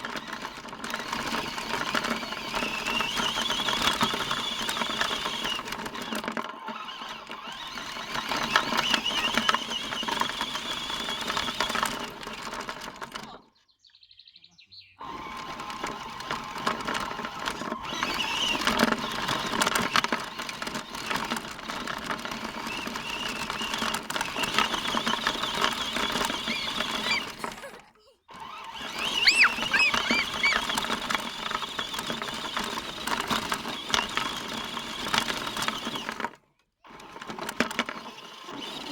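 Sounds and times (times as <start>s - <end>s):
toy car electric motor whining: 0.0s - 13.5s, 15.0s - 38.9s.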